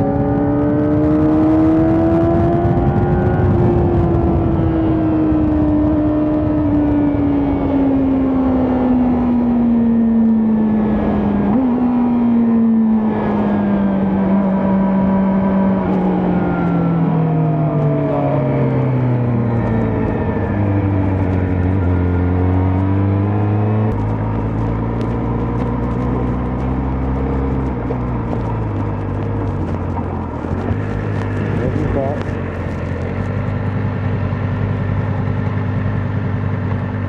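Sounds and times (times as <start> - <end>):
motorcycle exhaust while riding: 0.0 - 37.0.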